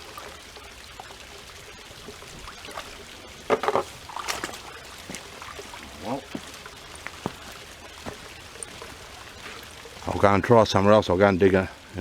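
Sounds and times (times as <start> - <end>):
water splashes: 0.0 - 10.9
water trickling into a pool: 0.0 - 12.0.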